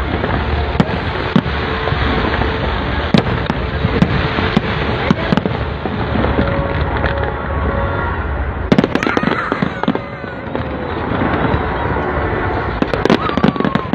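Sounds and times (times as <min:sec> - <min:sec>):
fireworks crackle and rumble: 0:00.0 - 0:13.9.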